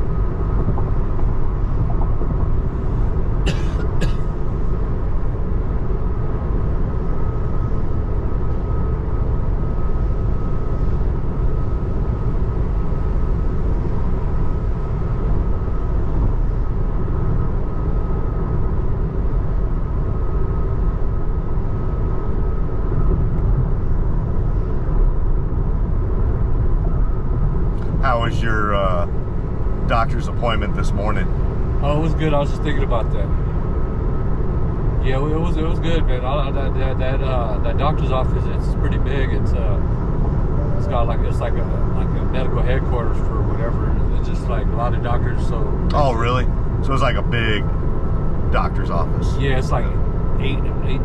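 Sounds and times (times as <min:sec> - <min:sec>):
road and tyre noise: 0:00.0 - 0:51.0
thin steady whine: 0:00.0 - 0:51.0.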